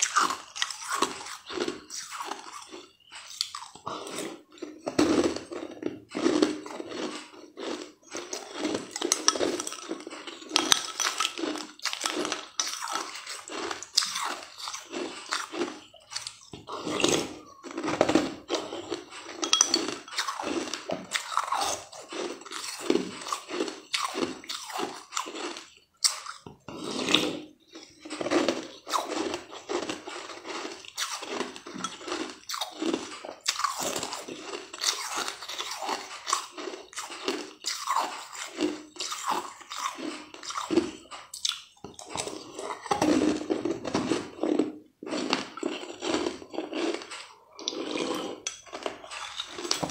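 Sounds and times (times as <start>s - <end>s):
crunching ice in the mouth: 0.0s - 49.9s.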